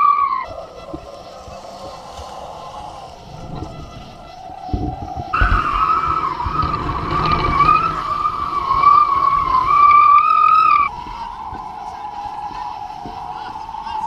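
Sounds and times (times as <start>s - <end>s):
high steady whistle: 0.0s - 14.0s
wind and water rushing: 0.0s - 14.0s.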